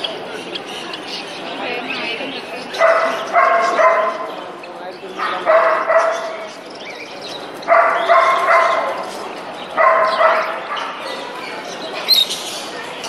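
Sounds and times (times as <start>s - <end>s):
animal calling: 0.4s - 6.7s, 7.4s - 12.8s.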